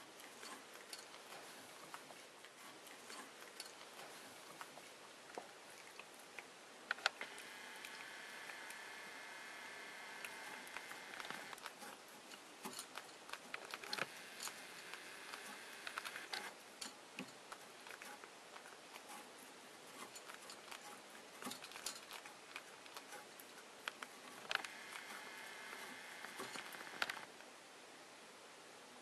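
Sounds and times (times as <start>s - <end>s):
cat chewing and licking: 0.0s - 27.3s.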